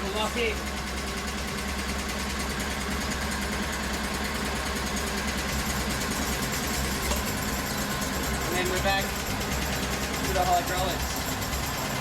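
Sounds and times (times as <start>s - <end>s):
stump grinder engine running: 0.0s - 12.0s.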